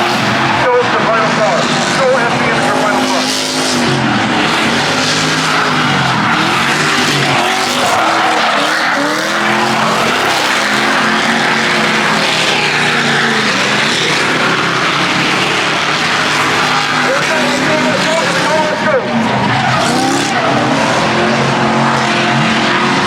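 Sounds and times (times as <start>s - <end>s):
car engine revving hard: 0.0s - 23.0s
tires screeching: 0.0s - 23.0s.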